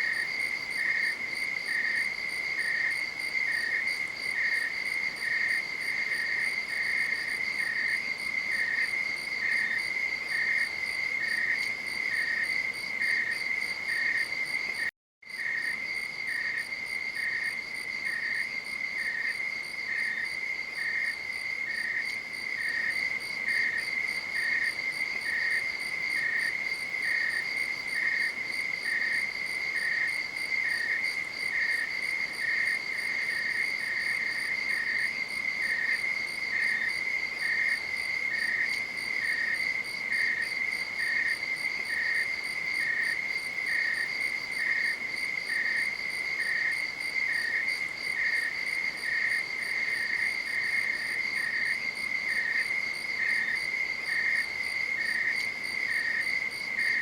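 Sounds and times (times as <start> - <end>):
insect chirping rhythmically: 0.0 - 57.0.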